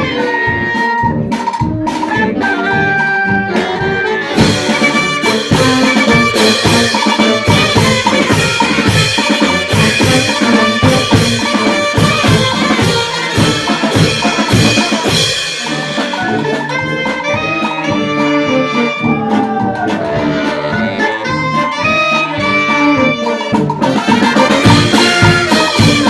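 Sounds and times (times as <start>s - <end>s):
brass band playing: 0.0s - 26.0s
drums and cymbals: 0.0s - 26.0s.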